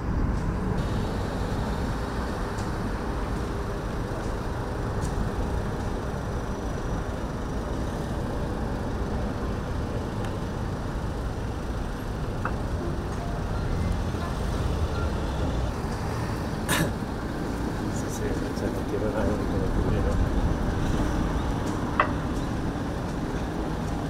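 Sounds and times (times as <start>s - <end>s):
distant engines and vehicles: 0.0s - 24.0s.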